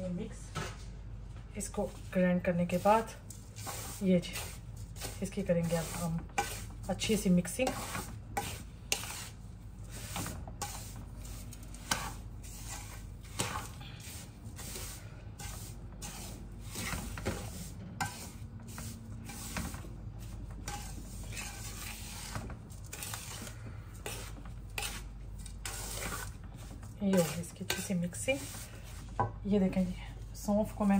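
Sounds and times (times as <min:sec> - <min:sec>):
wooden spoon scraping dry mix in pan: 0:01.6 - 0:30.9.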